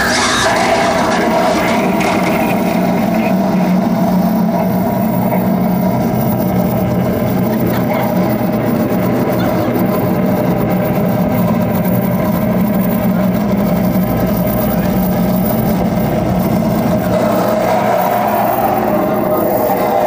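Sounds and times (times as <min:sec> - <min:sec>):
noise-music drone: 0:00.0 - 0:20.0.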